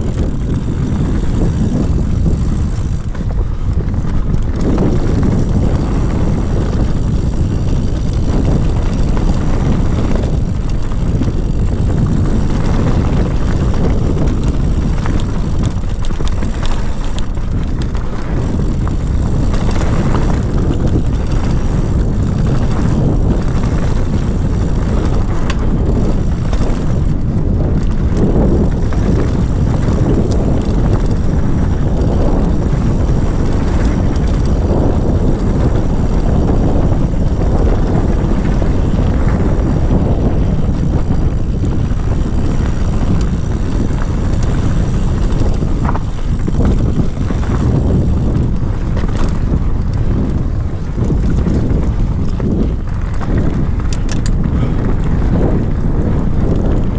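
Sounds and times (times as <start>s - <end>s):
bike knocks and rattles: 0.0s - 56.9s
tyre noise on dirt: 0.0s - 56.9s
wind rushing over microphone: 0.0s - 56.9s.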